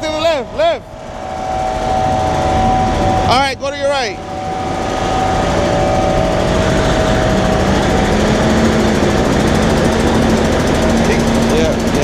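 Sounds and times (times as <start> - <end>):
faint steady hum: 0.0 - 11.4
diesel truck engine running: 0.0 - 12.0.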